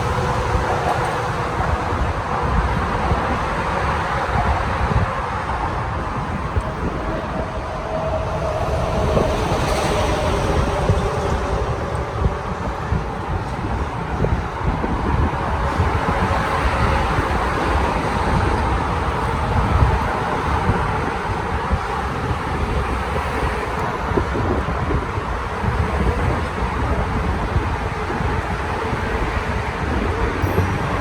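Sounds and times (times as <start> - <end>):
street traffic: 0.0 - 31.0
wind buffeting microphone: 0.0 - 31.0.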